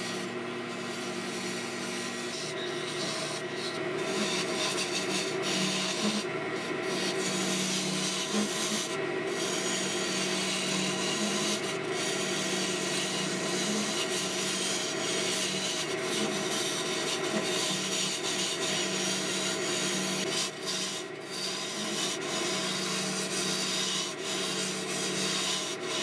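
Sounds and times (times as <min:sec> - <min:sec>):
lathe hum: 0:00.0 - 0:26.0.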